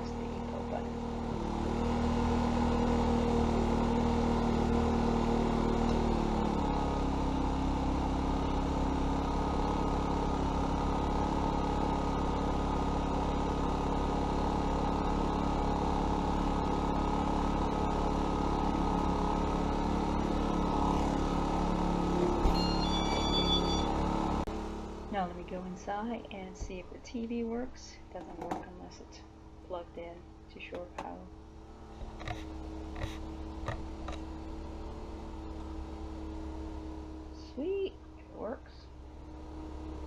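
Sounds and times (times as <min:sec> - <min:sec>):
generator engine running: 0:00.0 - 0:40.0.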